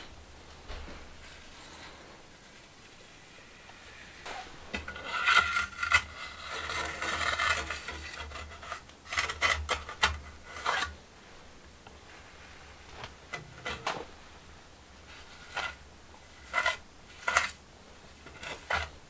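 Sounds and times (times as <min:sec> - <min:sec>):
scraping and rubbing: 0:00.0 - 0:11.4, 0:12.0 - 0:19.0.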